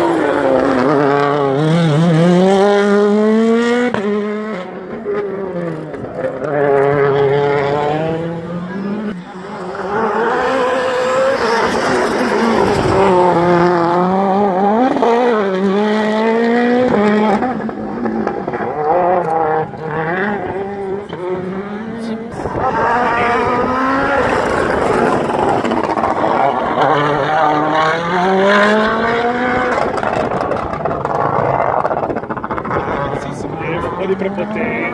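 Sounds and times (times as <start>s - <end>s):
rally car engine at full throttle: 0.0s - 34.9s.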